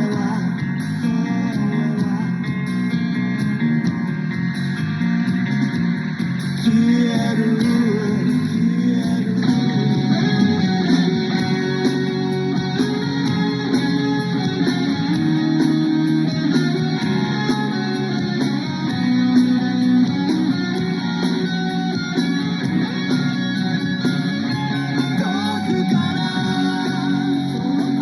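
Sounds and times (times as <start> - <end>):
guitar song with drum beat: 0.0 - 28.0.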